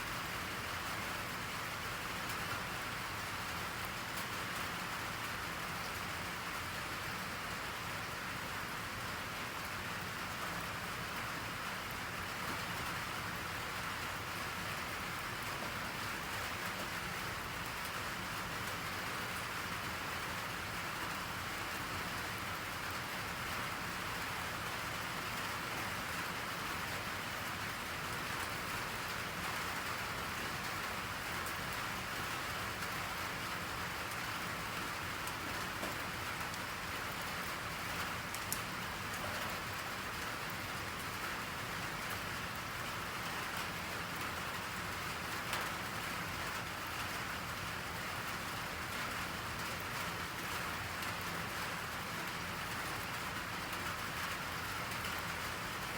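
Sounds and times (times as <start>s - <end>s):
rain pattering: 0.1s - 55.9s.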